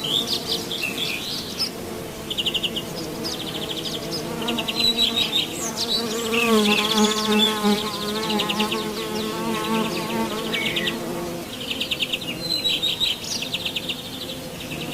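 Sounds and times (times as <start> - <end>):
insect buzzing: 0.0 - 14.9.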